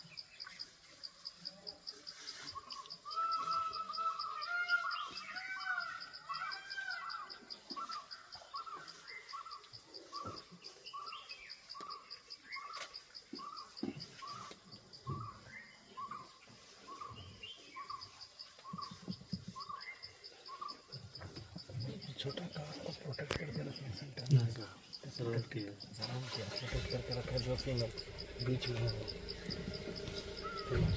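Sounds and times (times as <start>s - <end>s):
insect chirping: 0.0s - 30.9s.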